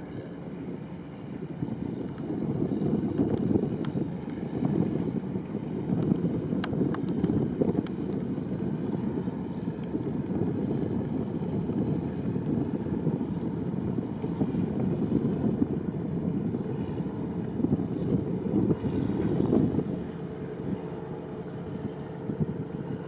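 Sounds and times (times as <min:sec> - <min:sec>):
boat engine rumble: 0:00.0 - 0:23.0
wind buffeting microphone: 0:00.0 - 0:23.0.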